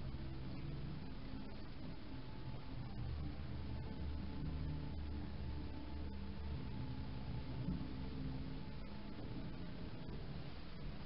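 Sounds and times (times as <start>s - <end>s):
faint low hum: 0.0s - 11.0s
steady low hiss: 0.0s - 11.0s.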